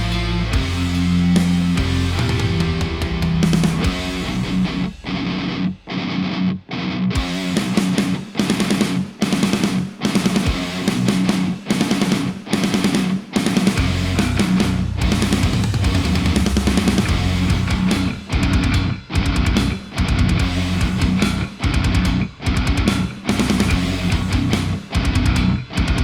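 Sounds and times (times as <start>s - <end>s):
heavy metal music: 0.0s - 26.0s.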